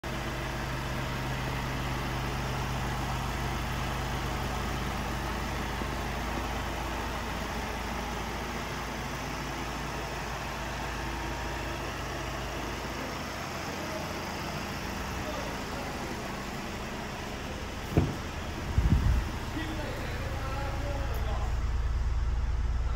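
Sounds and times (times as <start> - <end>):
diesel van engine idling: 0.0 - 22.9.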